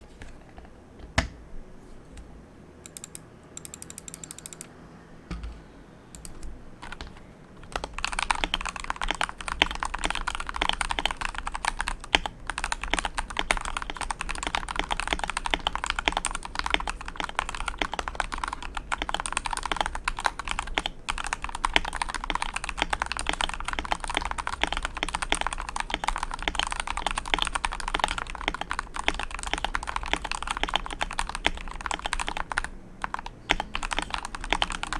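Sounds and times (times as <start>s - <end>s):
typing on mechanical keyboard: 2.9s - 4.8s, 6.2s - 34.9s.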